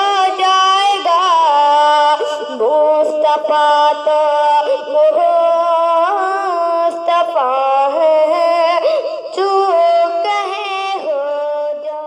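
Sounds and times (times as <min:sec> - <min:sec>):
boy singing devotional song: 0:00.0 - 0:12.0.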